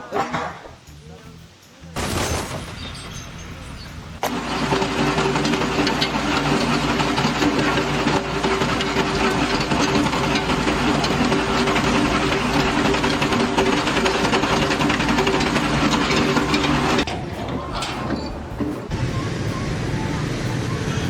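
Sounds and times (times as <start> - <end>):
machine rattling drone: 1.9 - 21.0.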